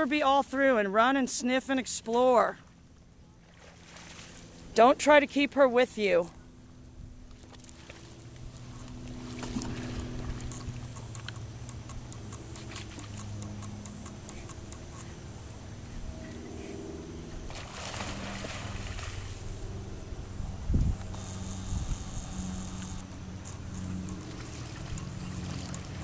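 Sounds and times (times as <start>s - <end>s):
engine drone: 2.6s - 26.0s.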